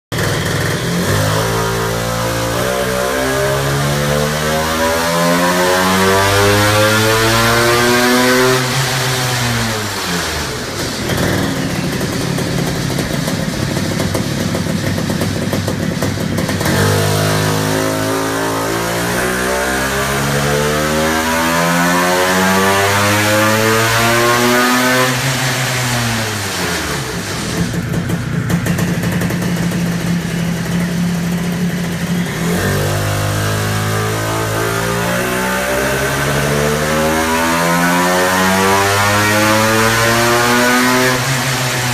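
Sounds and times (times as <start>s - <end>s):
two-stroke engine revving under load: 0.1s - 41.9s.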